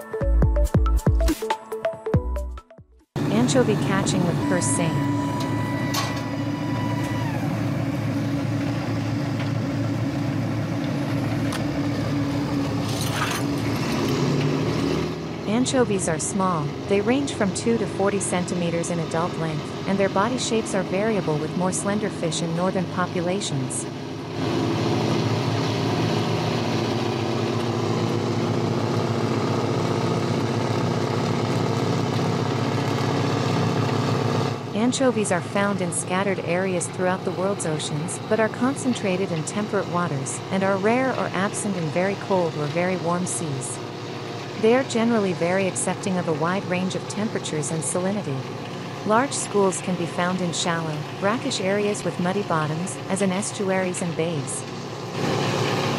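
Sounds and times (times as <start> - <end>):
boat engine droning: 3.2 - 55.9.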